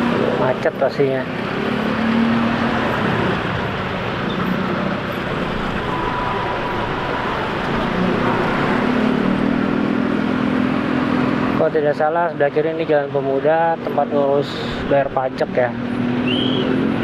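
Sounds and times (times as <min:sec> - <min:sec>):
motorcycle and scooter traffic: 0:00.0 - 0:17.0.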